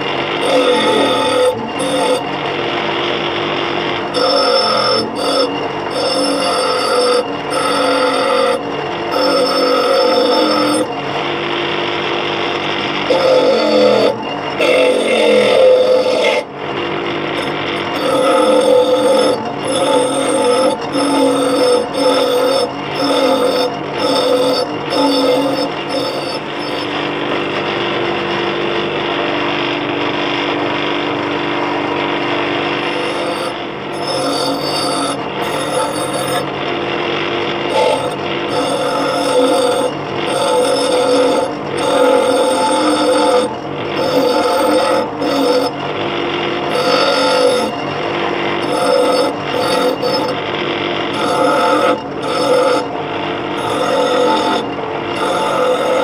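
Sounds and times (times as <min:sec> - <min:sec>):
bench grinder motor humming: 0:00.0 - 0:56.0.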